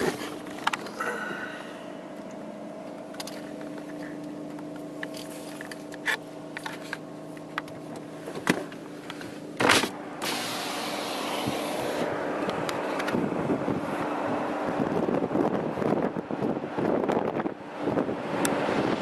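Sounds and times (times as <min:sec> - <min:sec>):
car engine hum: 0:00.0 - 0:19.0
road and wind noise: 0:00.0 - 0:19.0.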